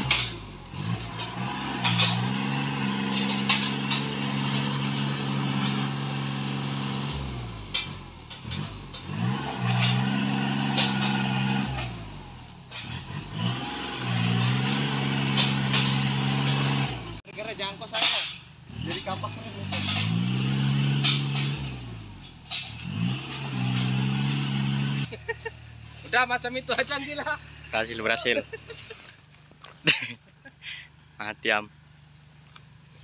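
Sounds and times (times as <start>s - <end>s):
tractor engine revving: 0.0s - 29.1s.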